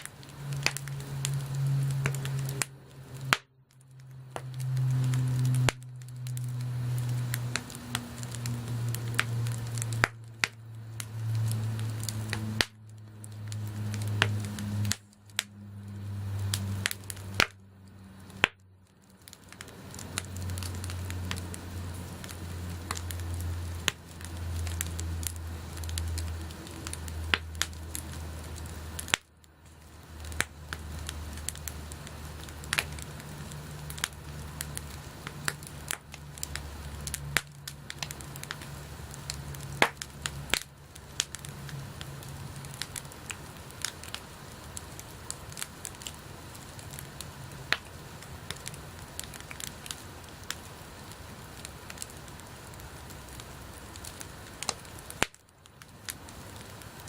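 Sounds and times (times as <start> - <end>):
bonfire crackling and popping: 0.0 - 57.0
low steady hum: 0.0 - 57.0.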